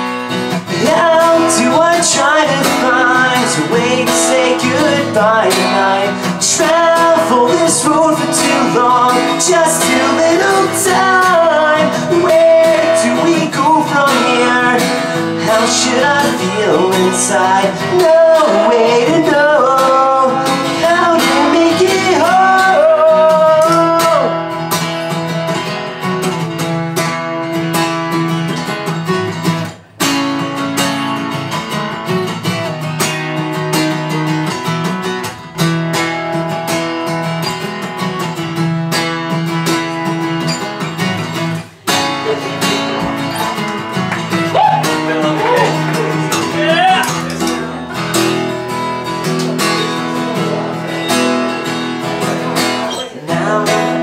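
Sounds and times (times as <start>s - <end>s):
guitar chords strummed: 0.0s - 54.0s.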